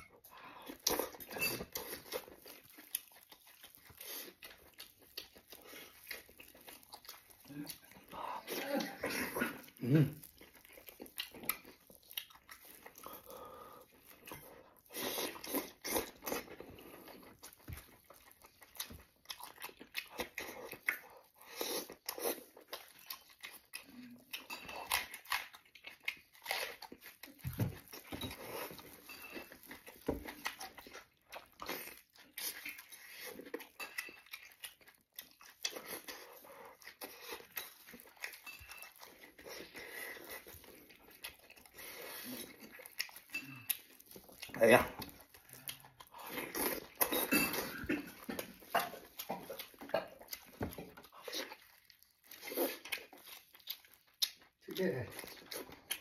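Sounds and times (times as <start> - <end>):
person chewing and lip-smacking: 0.0 - 56.0.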